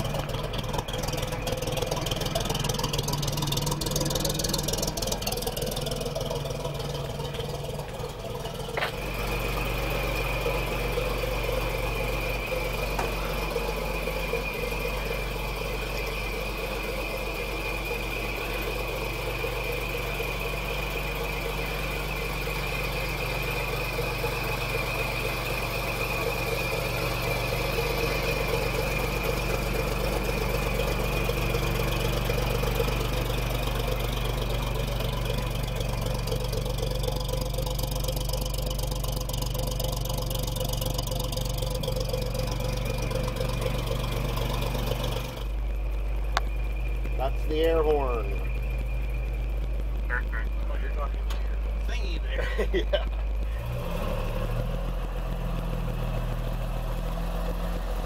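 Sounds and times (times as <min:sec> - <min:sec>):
high-pitched whine: 0:00.0 - 0:54.6
truck engine idling: 0:00.0 - 0:58.0.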